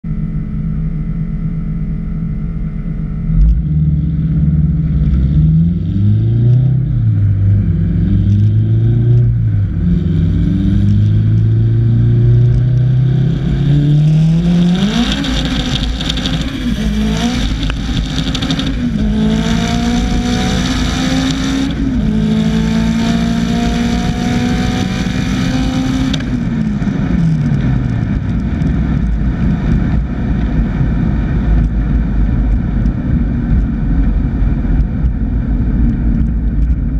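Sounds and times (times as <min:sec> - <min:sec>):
race car engine revving: 0:03.2 - 0:36.9
wind rush: 0:06.8 - 0:36.9.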